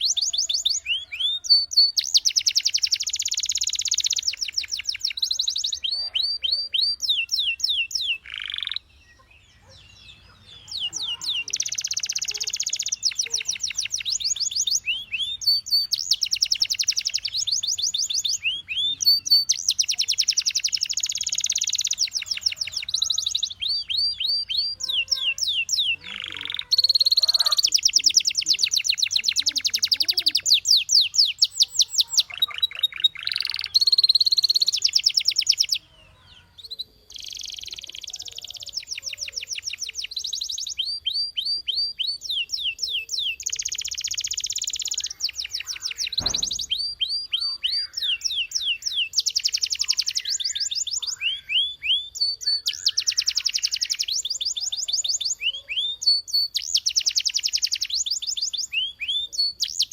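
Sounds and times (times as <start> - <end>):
canary singing fast trills: 0.0 - 59.9.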